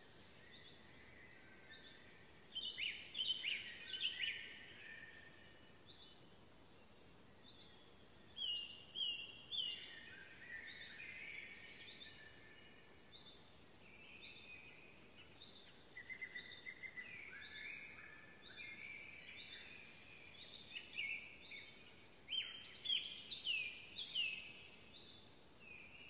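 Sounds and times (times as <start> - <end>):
faint background hiss: 0.0 - 26.0
songbirds singing and calling: 0.0 - 26.0.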